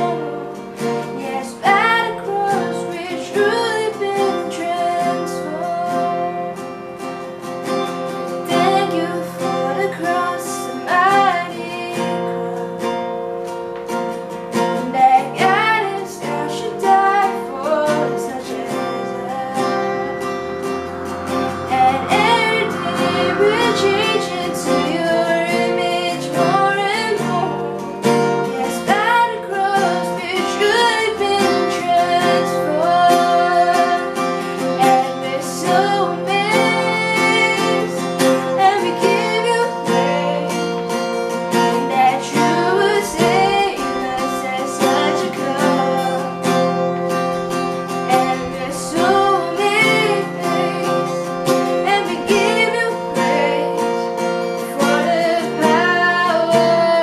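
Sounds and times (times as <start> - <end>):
woman singing a hymn: 0.0 - 6.9, 8.4 - 12.7, 14.8 - 47.1, 47.9 - 57.0
strummed acoustic guitar: 0.0 - 57.0.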